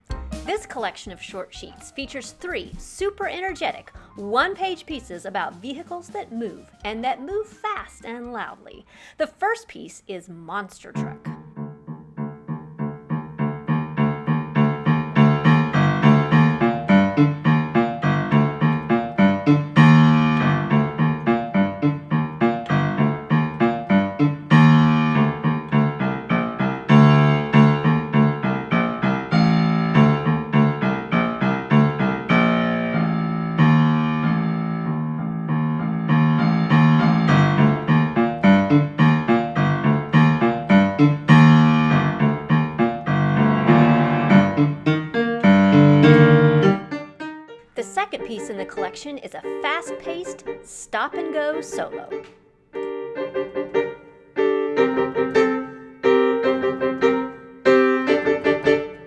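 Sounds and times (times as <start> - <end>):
solo piano playing fast: 0.0 - 7.4, 11.0 - 59.0.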